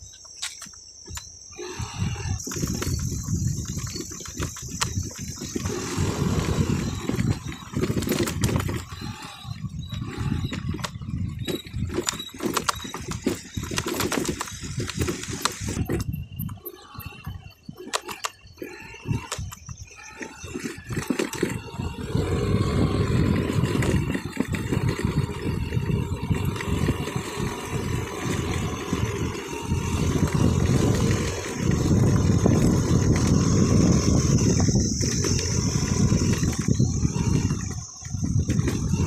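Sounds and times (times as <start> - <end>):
wind buffeting: 1.5 - 39.0
motorcycle engine running: 2.0 - 16.4, 20.6 - 39.0.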